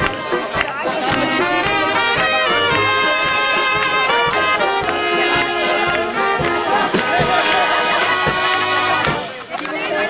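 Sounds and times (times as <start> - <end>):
brass band folk music: 0.0 - 10.0.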